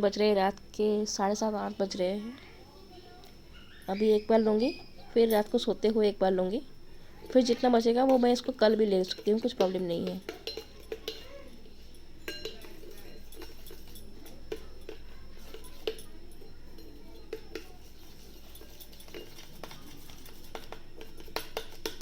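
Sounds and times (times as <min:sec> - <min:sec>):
steady low hum: 0:00.0 - 0:22.0
spoon clinking against bowl: 0:03.3 - 0:22.0.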